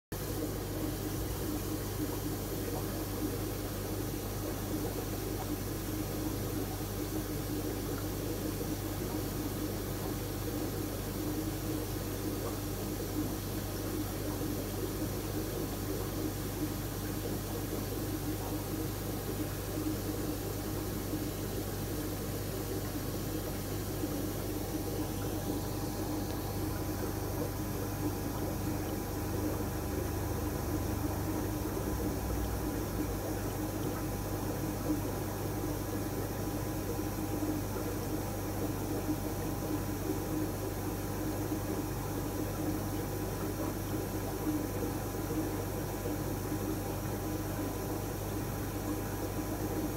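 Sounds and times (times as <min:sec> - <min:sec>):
aquarium filter hum: 0:00.1 - 0:49.9
bubbling splashing water: 0:00.2 - 0:49.9.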